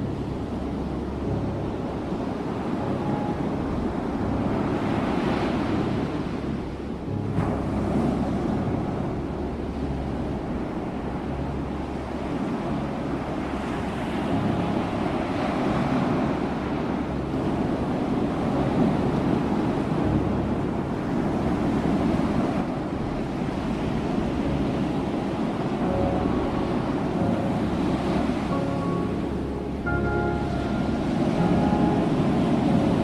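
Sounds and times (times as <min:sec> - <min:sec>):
ocean waves washing onto shore: 0:00.0 - 0:33.0
wind noise: 0:00.0 - 0:33.0.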